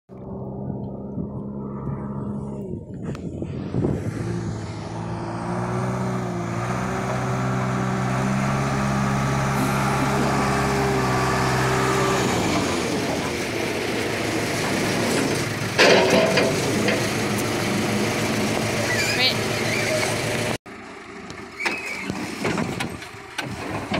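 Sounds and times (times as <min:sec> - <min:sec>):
diesel engine running: 0:00.1 - 0:23.9.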